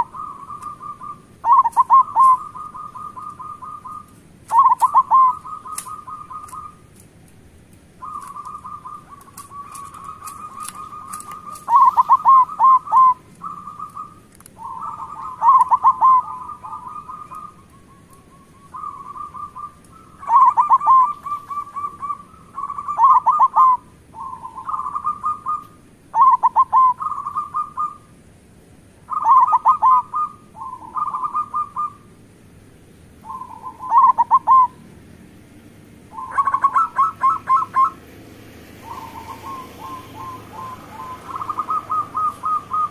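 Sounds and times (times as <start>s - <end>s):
doves cooing: 0.0s - 7.0s, 7.9s - 28.1s, 29.1s - 32.2s, 33.2s - 35.0s, 36.1s - 42.9s.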